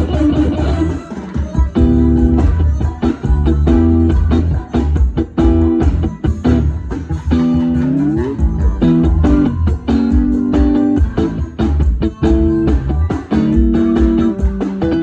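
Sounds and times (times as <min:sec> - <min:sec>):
bass: 0:00.0 - 0:15.0
guitar: 0:00.0 - 0:15.0
steady drum beat: 0:00.0 - 0:15.0.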